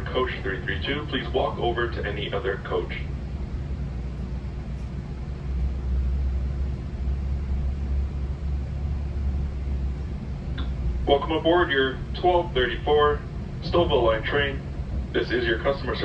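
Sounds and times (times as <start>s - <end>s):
train rumble from inside coach: 0.0s - 16.0s.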